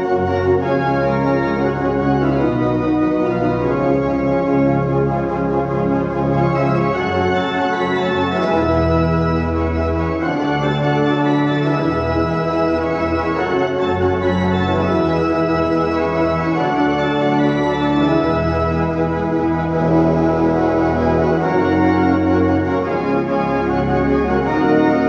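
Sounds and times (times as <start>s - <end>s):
pipe organ playing chords: 0.0s - 25.0s.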